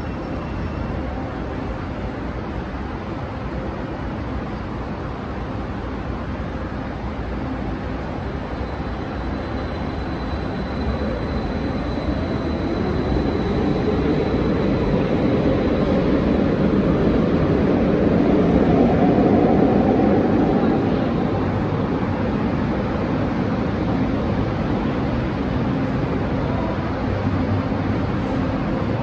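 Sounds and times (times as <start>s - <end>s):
metro train rumbling: 0.0s - 29.0s.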